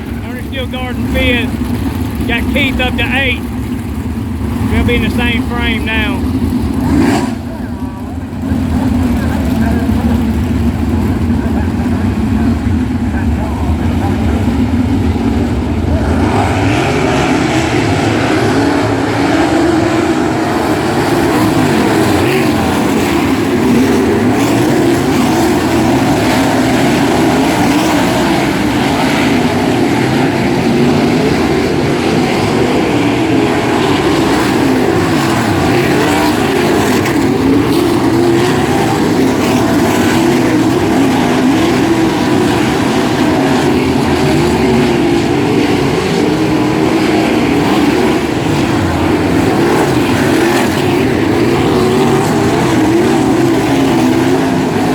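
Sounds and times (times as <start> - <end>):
race car engines roaring: 0.0 - 54.9.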